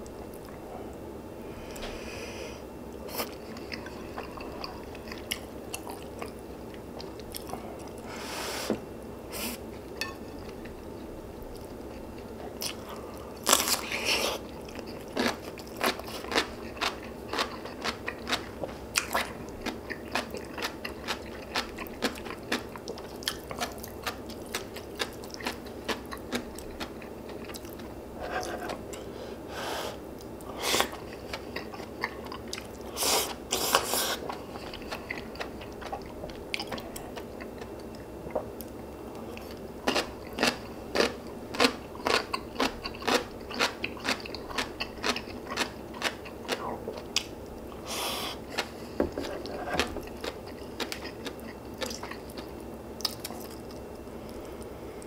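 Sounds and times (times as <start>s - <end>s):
chewing with wet clicks: 3.2s - 8.0s, 9.8s - 13.9s, 14.5s - 29.1s, 30.2s - 32.8s, 34.2s - 47.6s, 49.4s - 54.4s.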